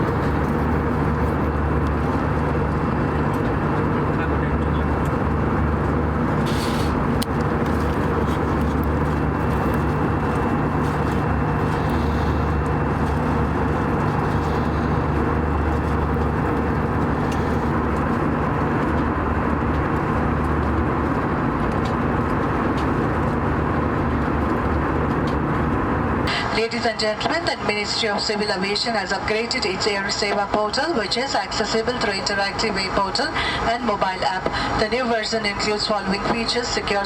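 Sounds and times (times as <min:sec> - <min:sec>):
airplane cabin drone: 0:00.0 - 0:37.0.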